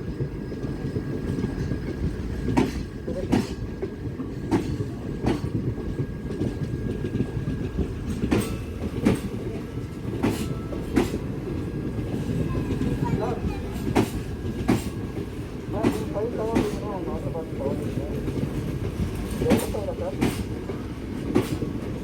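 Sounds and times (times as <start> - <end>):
train wheel and rail rumble: 0.0 - 22.0.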